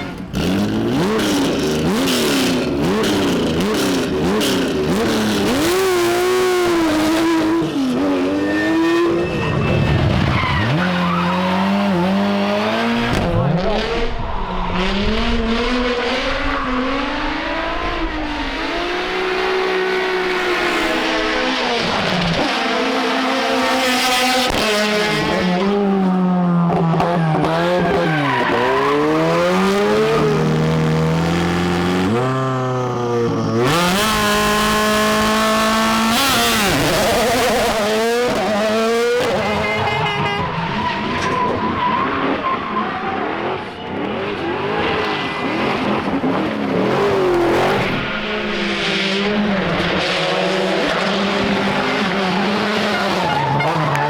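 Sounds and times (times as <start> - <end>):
tyres skidding: 0.0 - 25.5, 26.7 - 54.0
rally car engines revving: 0.0 - 54.0.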